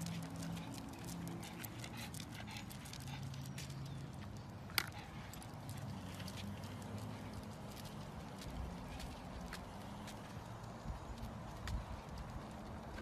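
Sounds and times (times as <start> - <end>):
dog claws clicking on pavement: 0.0 - 13.0.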